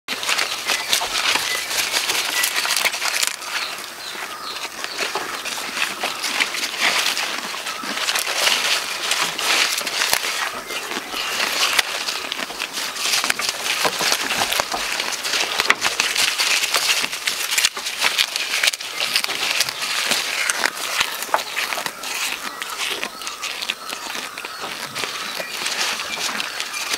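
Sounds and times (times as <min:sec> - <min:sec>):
goat chewing crunchy leaves: 0:00.1 - 0:26.9
leafy branches rustling: 0:00.1 - 0:26.9.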